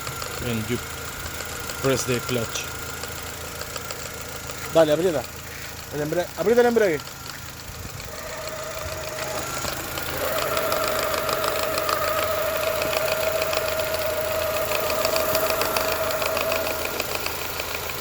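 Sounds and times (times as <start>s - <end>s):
car engine whine: 0.0s - 18.0s
fast metallic rattle: 0.0s - 18.0s.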